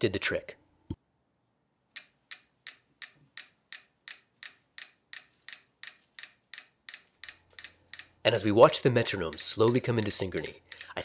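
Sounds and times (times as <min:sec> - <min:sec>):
metronomes ticking: 0:01.9 - 0:11.0.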